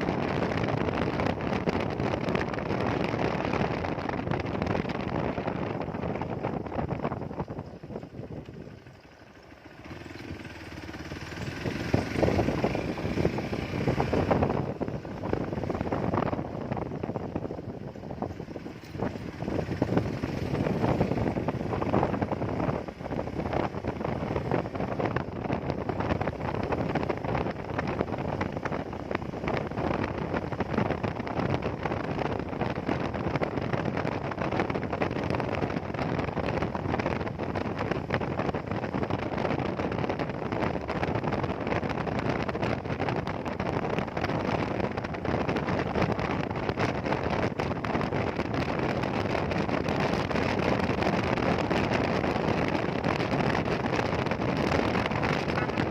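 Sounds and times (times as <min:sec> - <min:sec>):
motorcycle engine: 0:00.0 - 0:55.9
road noise: 0:00.0 - 0:55.9
wind on microphone: 0:00.0 - 0:55.9.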